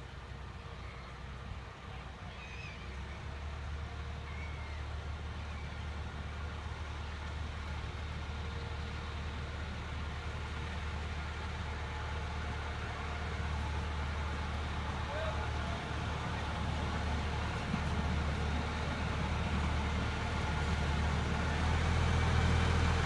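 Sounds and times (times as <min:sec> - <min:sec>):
diesel locomotive drone: 0:00.0 - 0:23.0.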